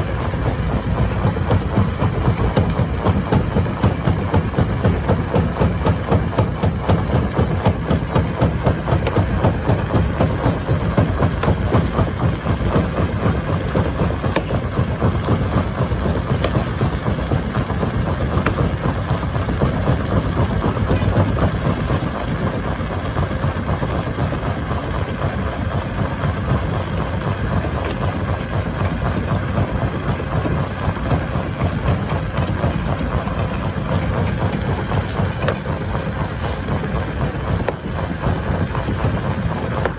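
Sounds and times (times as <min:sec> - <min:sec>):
stone crusher machinery drone: 0:00.0 - 0:39.9.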